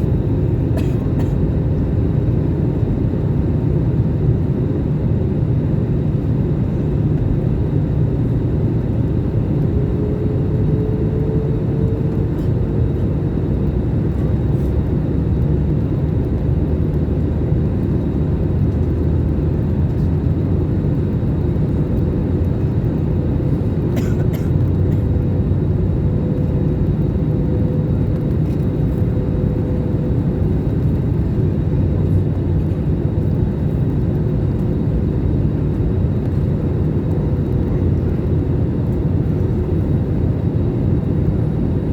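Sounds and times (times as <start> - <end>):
jet engines droning: 0.0 - 41.9.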